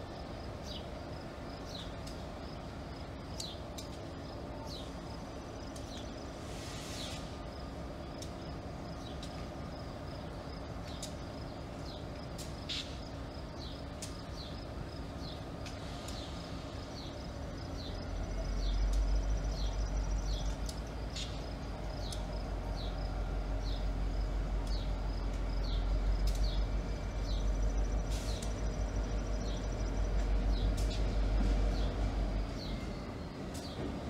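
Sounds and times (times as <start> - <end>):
diesel locomotive engine rumbling: 0.0 - 34.0.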